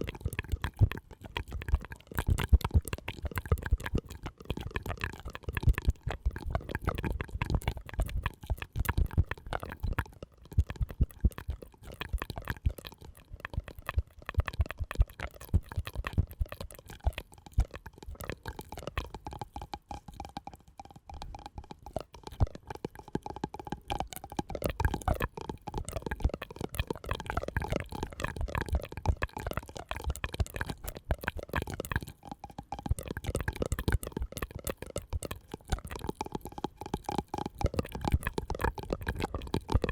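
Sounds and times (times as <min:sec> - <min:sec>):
soft clicks and wet pops: 0:00.0 - 0:39.9.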